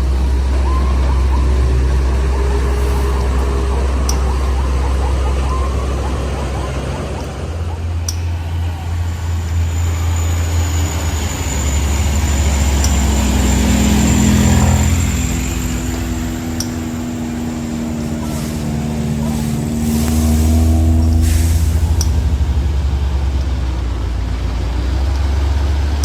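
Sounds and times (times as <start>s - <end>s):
truck diesel engine climbing: 0.0s - 26.0s.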